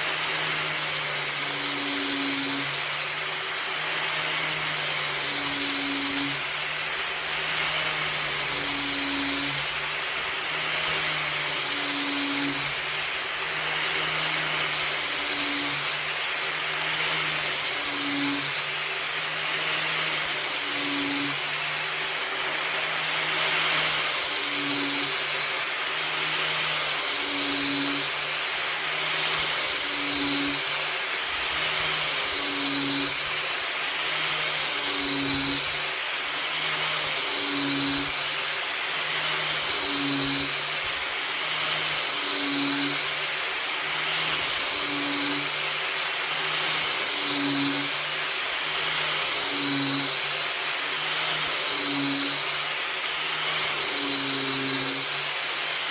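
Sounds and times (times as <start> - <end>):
angle grinder grinding metal blade: 0.0 - 55.9.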